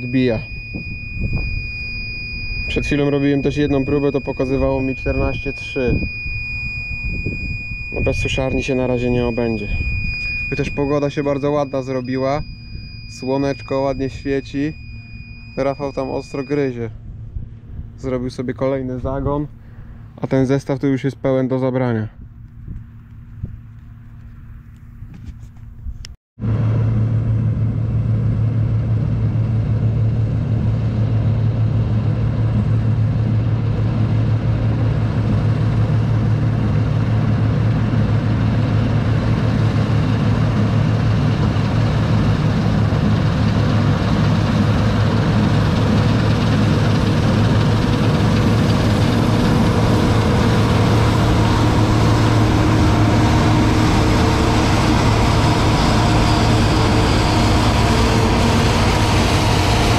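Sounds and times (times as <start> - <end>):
diesel engine running: 0.0 - 21.6, 26.4 - 59.9.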